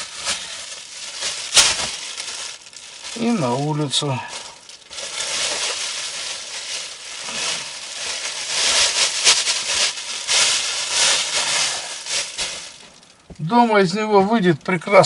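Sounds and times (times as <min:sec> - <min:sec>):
plastic bag rustling: 0:00.0 - 0:13.5.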